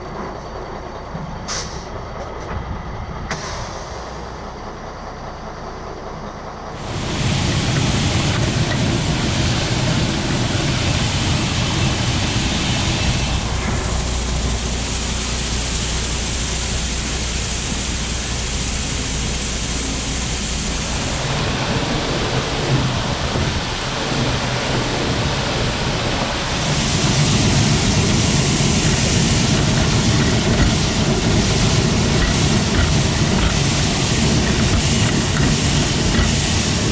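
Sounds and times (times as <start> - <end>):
truck engine low rumble: 0.0 - 36.9
loud rushing noise: 6.8 - 36.9.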